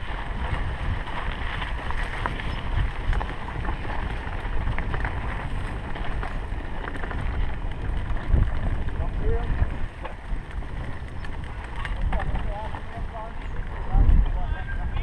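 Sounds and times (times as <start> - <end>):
bike clicks and knocks: 0.0 - 14.4
bike tyre noise on dirt: 0.0 - 15.0
wind rumbling on microphone: 0.0 - 15.0.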